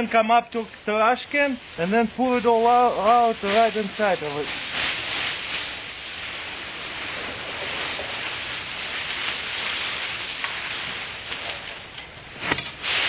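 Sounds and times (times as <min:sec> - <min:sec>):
dry leaves rustling into metal can: 0:01.7 - 0:13.0.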